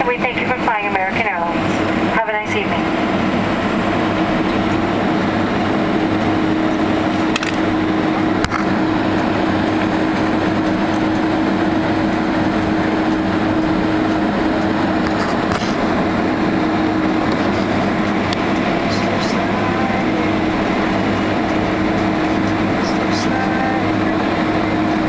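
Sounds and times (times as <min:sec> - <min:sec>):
aircraft engines at taxi power: 0:00.0 - 0:25.0
cabin air hum: 0:00.0 - 0:25.0.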